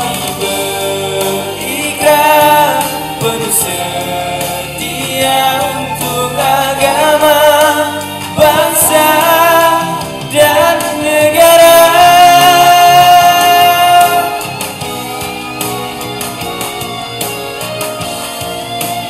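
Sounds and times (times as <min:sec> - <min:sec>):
young man singing with vibrato: 0:00.0 - 0:15.8
backing track: 0:00.0 - 0:19.0.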